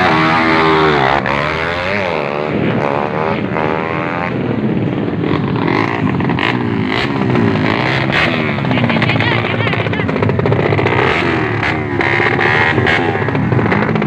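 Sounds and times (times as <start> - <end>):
racing motorbike engines revving: 0.0 - 14.0.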